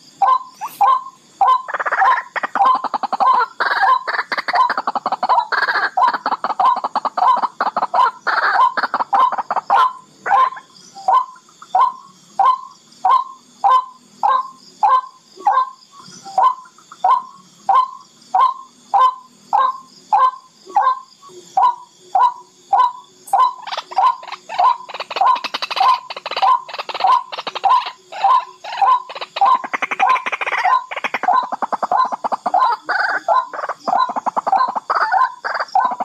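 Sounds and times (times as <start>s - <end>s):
rail bird calling: 0.0s - 36.0s.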